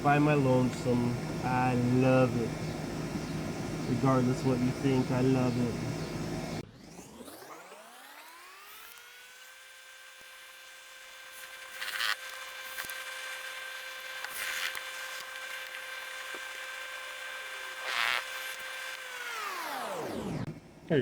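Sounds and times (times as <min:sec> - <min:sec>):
power tool motor running: 0:00.0 - 0:20.9.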